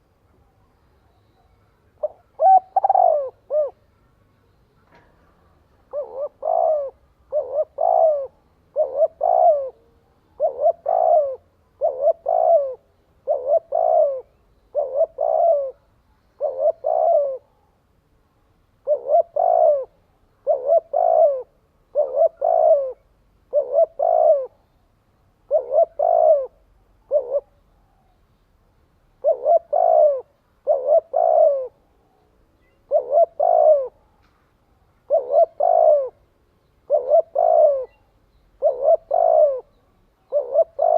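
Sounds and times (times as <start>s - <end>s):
dove cooing: 0.0s - 4.2s, 4.9s - 17.8s, 18.8s - 24.7s, 25.4s - 28.2s, 29.1s - 34.2s, 35.0s - 40.9s.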